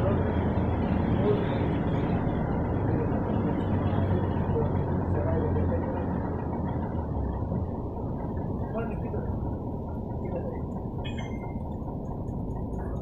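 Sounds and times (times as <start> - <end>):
low engine hum: 0.0 - 13.0
road noise: 0.0 - 13.0.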